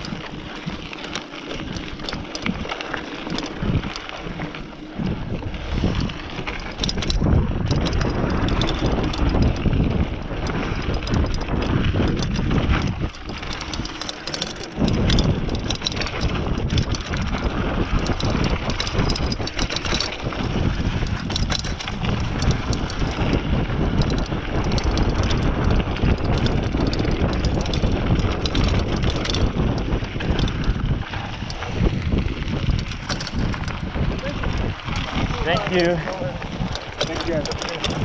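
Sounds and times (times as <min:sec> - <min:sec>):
bike rattling over bumps: 0:00.0 - 0:38.0
tyres rolling over dirt: 0:00.0 - 0:38.0
wind buffeting microphone: 0:00.0 - 0:38.0.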